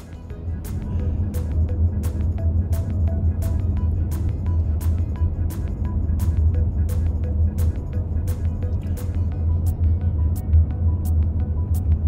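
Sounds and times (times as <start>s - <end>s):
music with deep bass and beat: 0.0s - 12.0s.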